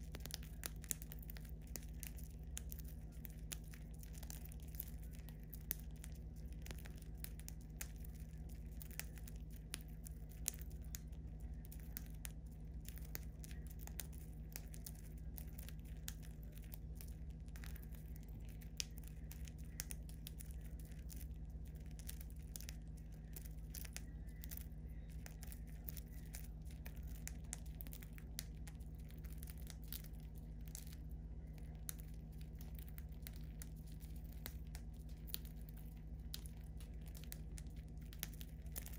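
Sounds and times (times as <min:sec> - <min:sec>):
birds pecking and husking seed: 0:00.0 - 0:38.9
low steady hum: 0:00.0 - 0:38.9.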